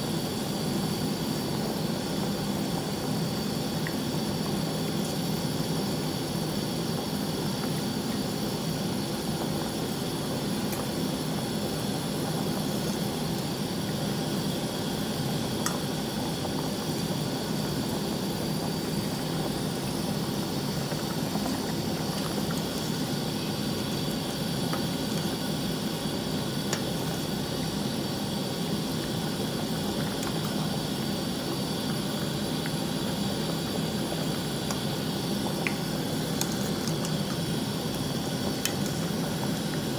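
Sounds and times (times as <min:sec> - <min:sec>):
broth bubbling at rolling boil: 0:00.0 - 0:39.9.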